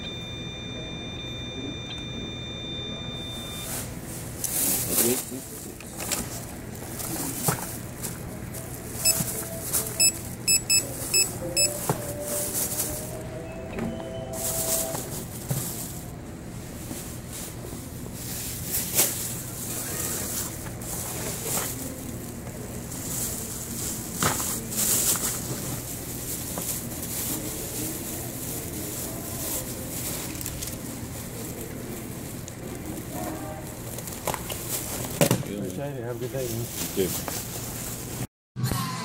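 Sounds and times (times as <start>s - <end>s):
faint indistinct voices: 0.0s - 37.4s.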